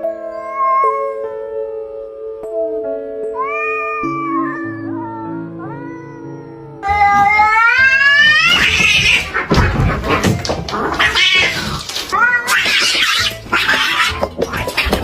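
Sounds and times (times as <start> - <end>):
cats yowling and screeching: 0.2 - 1.2, 3.4 - 15.0.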